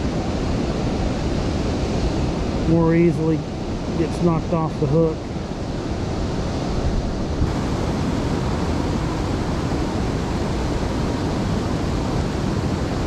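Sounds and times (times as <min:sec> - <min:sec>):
river water rushing over dam: 0:00.0 - 0:13.0
wind rumbling on microphone: 0:00.0 - 0:13.0.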